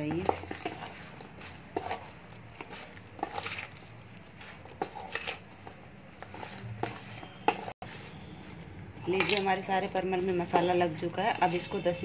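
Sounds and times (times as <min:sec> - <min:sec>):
spoon scraping a steel bowl: 0:00.0 - 0:12.0.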